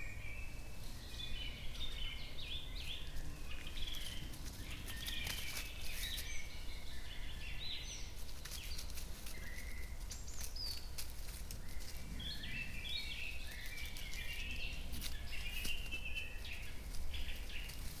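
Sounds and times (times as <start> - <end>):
birds chirping and calling: 0.0 - 18.0
low outdoor rumble: 0.0 - 18.0.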